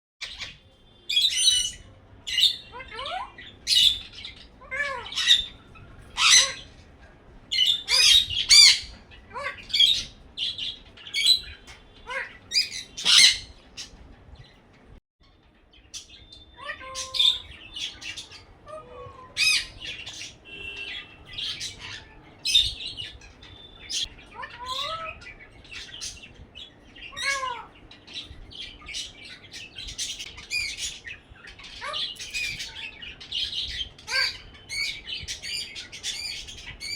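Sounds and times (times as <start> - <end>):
parrot squawking and chirping: 0.2 - 14.0, 15.9 - 36.9.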